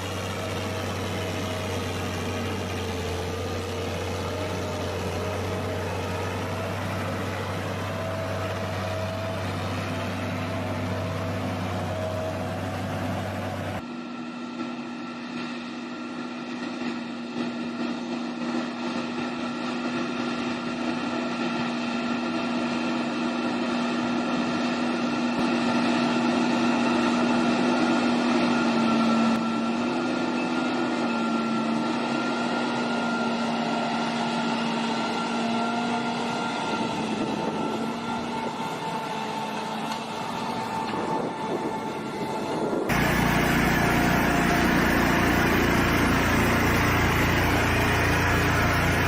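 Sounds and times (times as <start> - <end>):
machine engine droning hum: 0.0 - 49.0.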